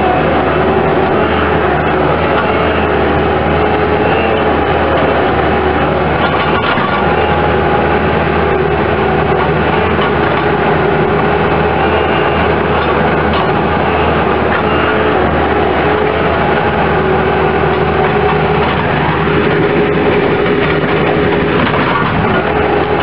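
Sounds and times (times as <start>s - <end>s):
diesel engine running: 0.0s - 23.0s
steady whine: 0.0s - 23.0s.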